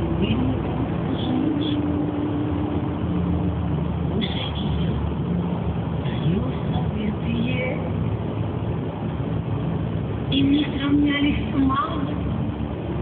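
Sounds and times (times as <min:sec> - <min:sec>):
car engine and tyre noise: 0:00.0 - 0:13.0
low hum: 0:00.0 - 0:13.0.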